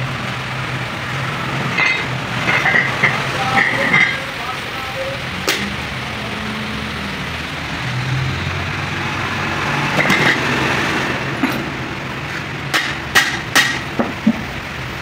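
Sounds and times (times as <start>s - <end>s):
engine and road traffic rumble: 0.0s - 15.0s.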